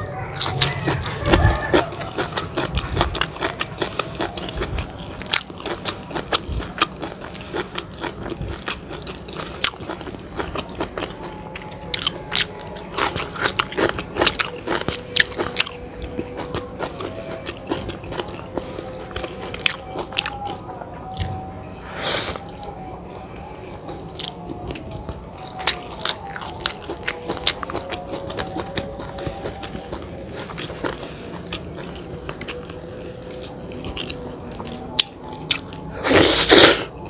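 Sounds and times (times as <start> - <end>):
loud noisy eating sound: 0.0 - 37.0
chewing and mouth clicks: 0.3 - 21.3, 23.8 - 36.9.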